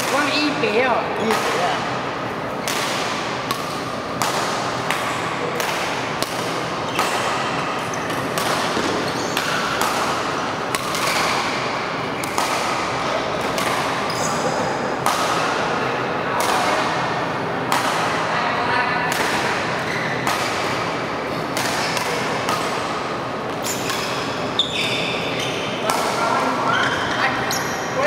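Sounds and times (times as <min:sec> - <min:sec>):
background hiss in large hall: 0:00.0 - 0:28.0
rackets striking shuttlecock: 0:01.2 - 0:02.0, 0:02.6 - 0:15.8, 0:16.4 - 0:18.3, 0:19.1 - 0:26.2.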